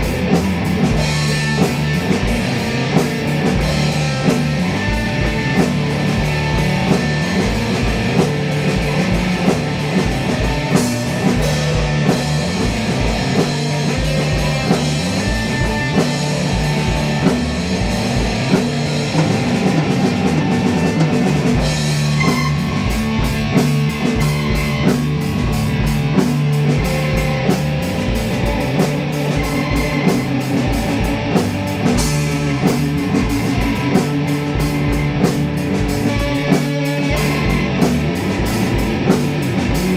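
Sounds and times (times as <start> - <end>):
drum kit playing: 0.0 - 39.9
electric guitar riff: 0.0 - 39.9.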